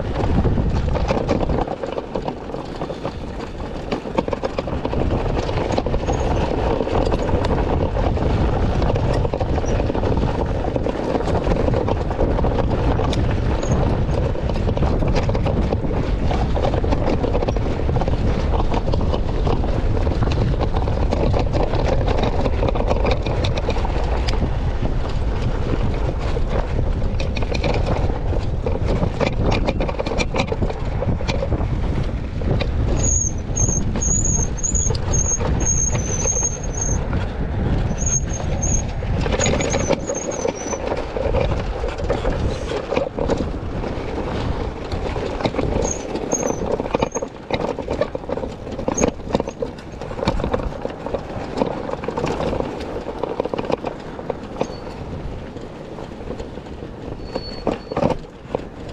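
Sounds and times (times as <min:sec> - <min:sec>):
knocks and rattles: 0:00.0 - 0:58.9
moped rolling on dirt trail: 0:00.0 - 0:58.9
wind buffeting microphone: 0:00.0 - 0:58.9.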